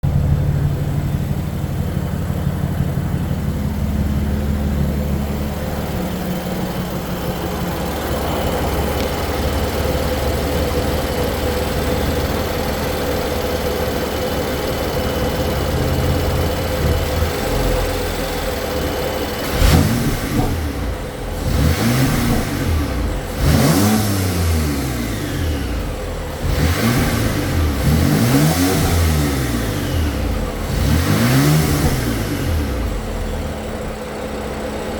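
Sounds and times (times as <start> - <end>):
car engine idling and revving: 0.0 - 34.9
engine whine: 0.0 - 34.9.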